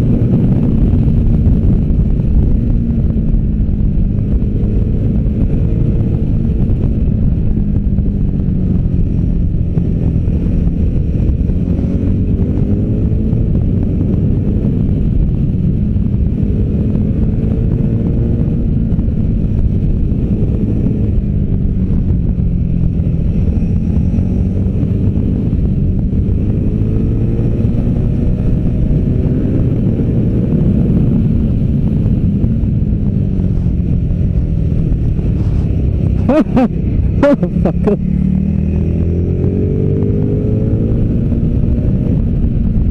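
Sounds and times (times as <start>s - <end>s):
motorcycle engine at speed: 0.0s - 42.9s
wind noise on microphone: 0.0s - 42.9s.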